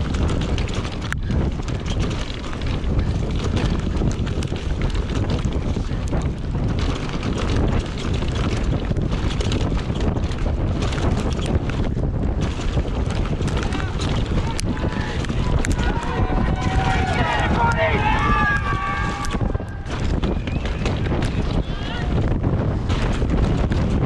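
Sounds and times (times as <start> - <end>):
bike clicks and rattles: 0.0 - 24.0
wind rushing over microphone: 0.0 - 24.0.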